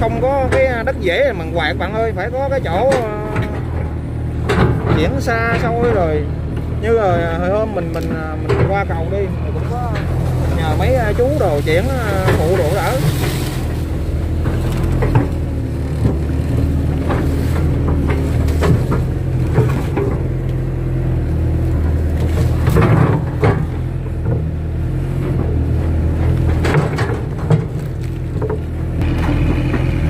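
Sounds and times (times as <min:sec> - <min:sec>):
excavator diesel engine running: 0:00.0 - 0:30.0
machine knocks and clanks: 0:02.7 - 0:20.6, 0:22.2 - 0:24.6, 0:25.2 - 0:30.0.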